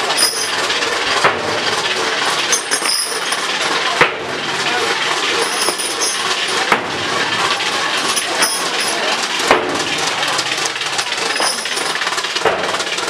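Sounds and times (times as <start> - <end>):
outdoor crowd noise: 0.0 - 13.0.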